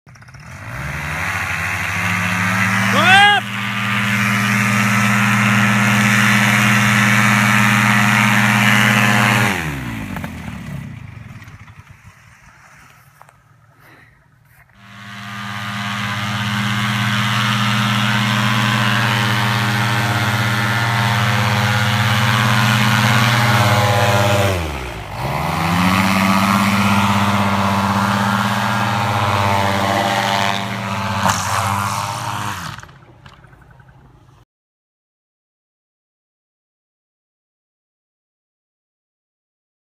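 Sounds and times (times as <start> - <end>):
paramotor engine and propeller drone: 0.1 - 13.7, 14.7 - 34.4.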